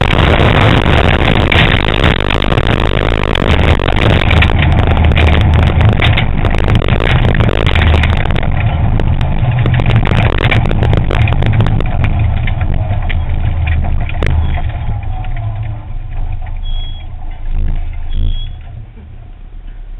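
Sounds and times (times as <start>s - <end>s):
clicks and rattles in car: 0.0s - 19.1s
rally car engine running hard: 0.0s - 19.9s.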